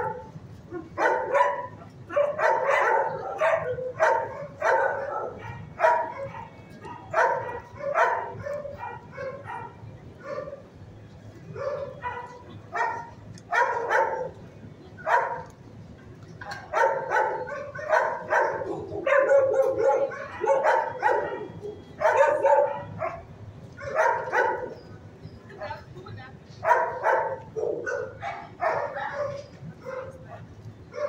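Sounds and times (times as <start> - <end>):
dogs barking: 0.0 - 10.7, 11.5 - 14.4, 15.0 - 15.5, 16.4 - 25.0, 26.6 - 31.0.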